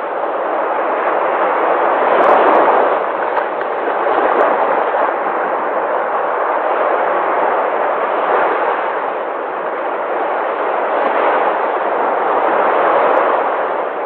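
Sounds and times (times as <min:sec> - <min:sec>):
sea waves breaking: 0:00.0 - 0:14.0.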